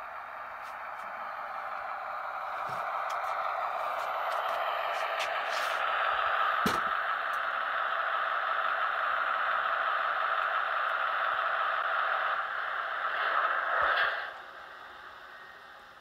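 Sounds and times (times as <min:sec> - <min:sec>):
model train hissing rush: 0:00.0 - 0:16.0.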